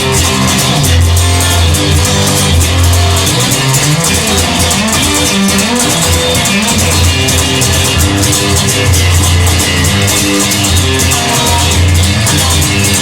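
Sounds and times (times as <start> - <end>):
instrumental rock music: 0.0 - 13.0.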